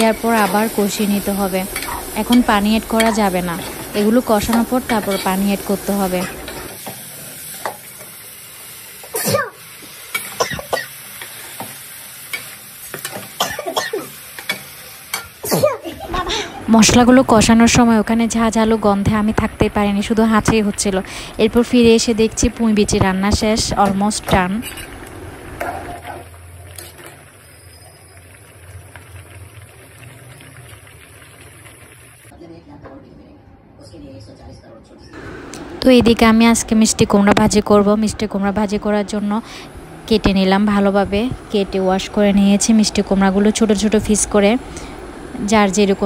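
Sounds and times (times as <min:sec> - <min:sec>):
frying sizzle: 0:00.0 - 0:32.4, 0:35.2 - 0:46.0.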